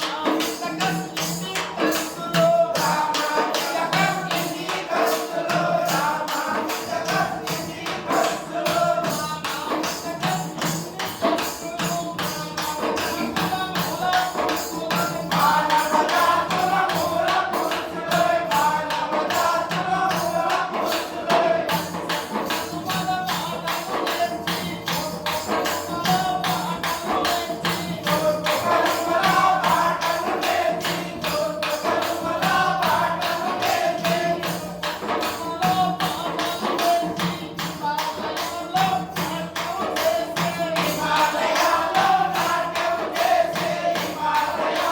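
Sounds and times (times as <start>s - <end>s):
fast percussion beat: 0.0s - 44.9s
man singing: 0.0s - 44.9s.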